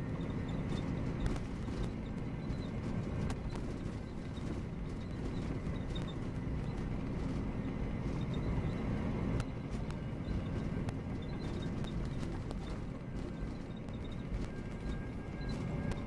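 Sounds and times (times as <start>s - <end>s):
coach engine and road rumble: 0.0s - 16.0s.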